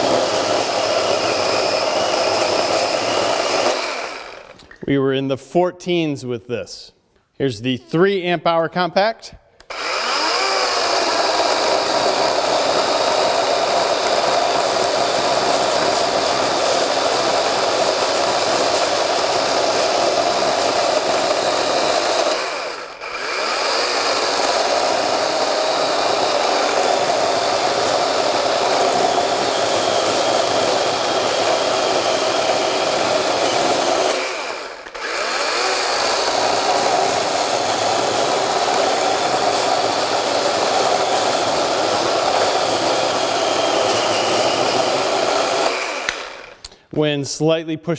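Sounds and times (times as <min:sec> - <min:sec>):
electric chainsaw cutting wood: 0:00.0 - 0:04.7, 0:09.6 - 0:46.7.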